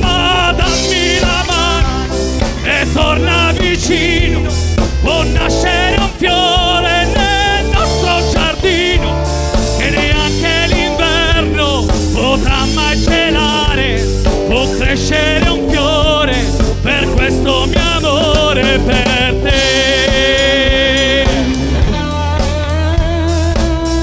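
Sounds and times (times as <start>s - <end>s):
pop band playing: 0.0s - 24.0s.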